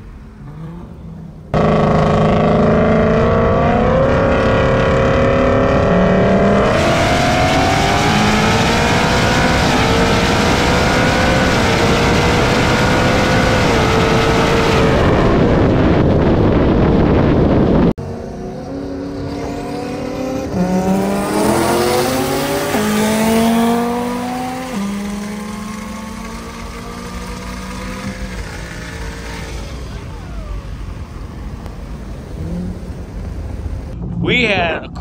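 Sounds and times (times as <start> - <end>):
car engine accelerating hard: 0.0 - 35.0.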